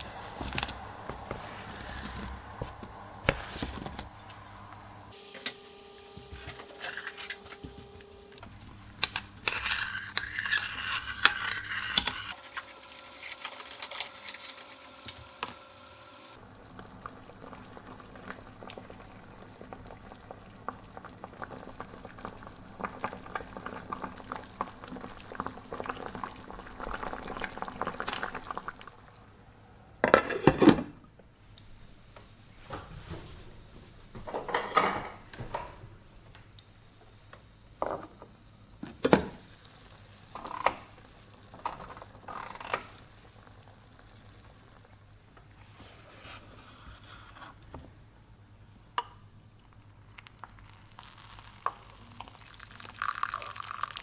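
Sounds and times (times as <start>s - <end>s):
pot boiling and bubbling: 0.0s - 30.8s, 36.6s - 47.5s, 49.6s - 54.0s.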